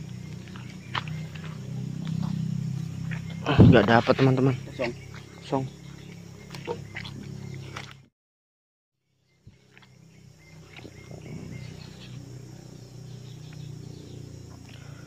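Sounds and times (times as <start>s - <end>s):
faint insect calls: 0.0s - 8.0s, 9.0s - 15.0s
low hum of outdoor ambience: 0.0s - 8.1s, 9.0s - 15.0s.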